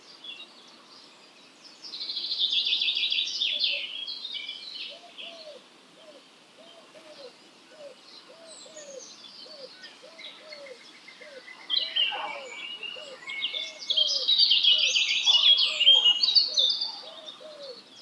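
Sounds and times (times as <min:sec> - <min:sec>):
songbirds twittering: 0:00.0 - 0:18.0.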